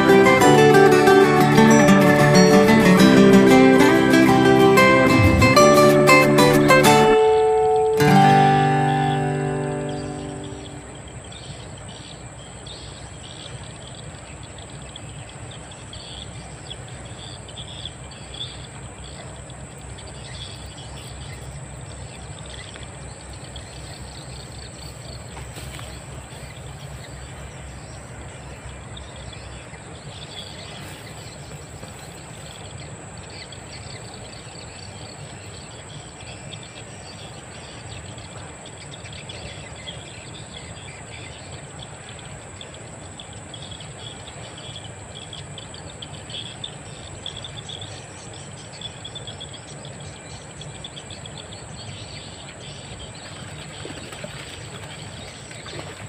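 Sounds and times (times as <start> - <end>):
birds chirping: 0.0 - 56.0
insects chirring: 0.0 - 56.0.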